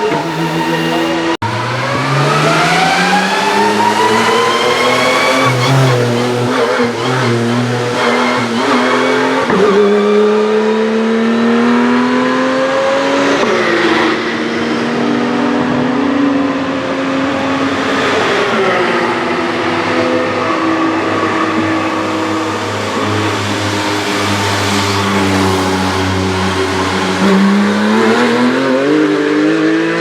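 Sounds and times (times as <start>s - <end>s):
racing car engines accelerating: 0.0s - 30.0s.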